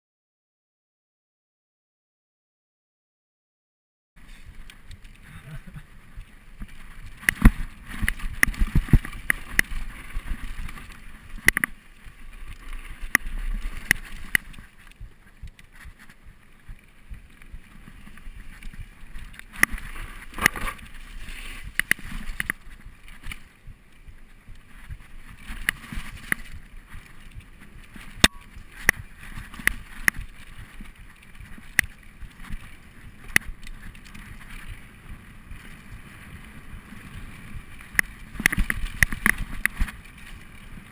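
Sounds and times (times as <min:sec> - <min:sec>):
bike clicks and knocks over bumps: 0:04.2 - 0:40.9
bike tyre rush on dirt trail: 0:04.2 - 0:40.9.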